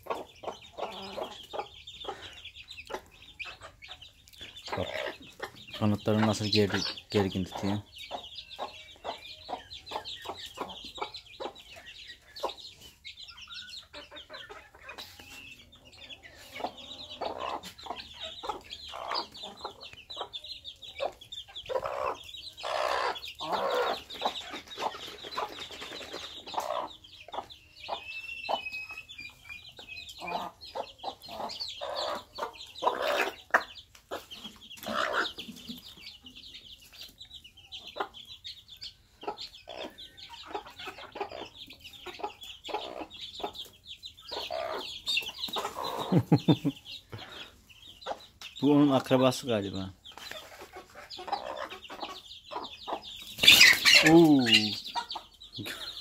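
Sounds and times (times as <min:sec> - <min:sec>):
chicks peeping: 0:00.0 - 0:56.0
hens clucking: 0:00.0 - 0:56.0.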